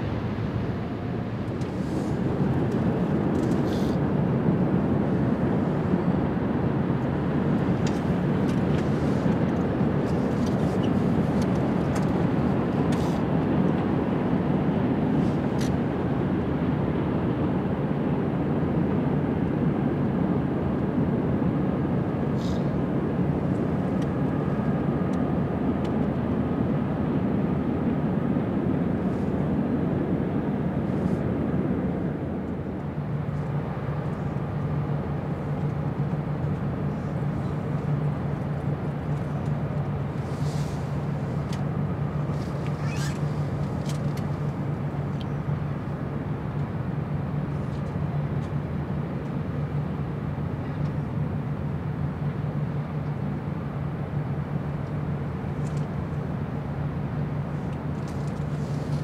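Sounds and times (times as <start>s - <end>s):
constant low hum: 0.0s - 59.0s
low engine rumble: 0.0s - 59.0s.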